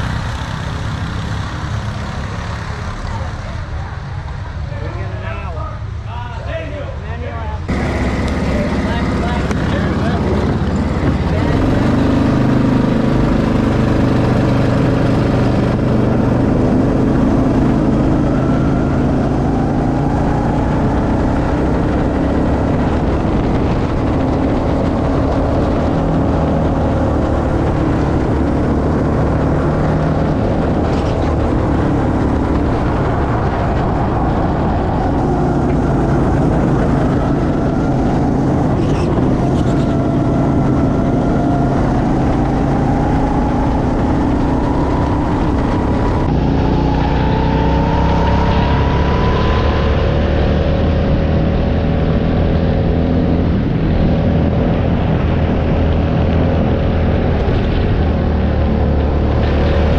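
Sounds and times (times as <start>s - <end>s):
go-kart engine running: 0.0s - 6.0s, 7.6s - 59.9s.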